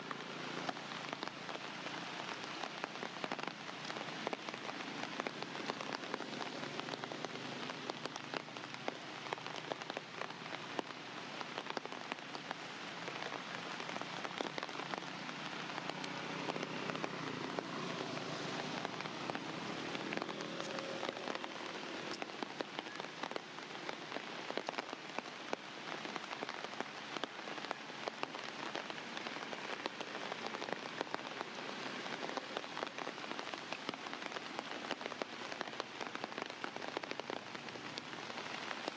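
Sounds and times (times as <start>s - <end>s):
rain falling: 0.0s - 38.9s
raindrop hits close by: 0.0s - 38.9s.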